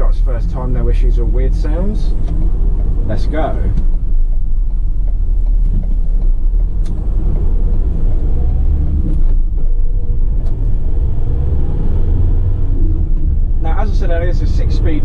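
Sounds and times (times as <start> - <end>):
diesel engine accelerating: 0.0 - 15.0
road rumble: 0.0 - 15.0.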